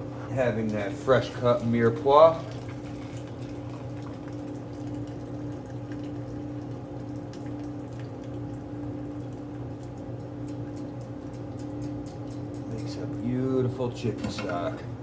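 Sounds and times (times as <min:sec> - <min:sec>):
kitchen machine hum: 0:00.0 - 0:15.0
liquid drips: 0:00.3 - 0:13.4.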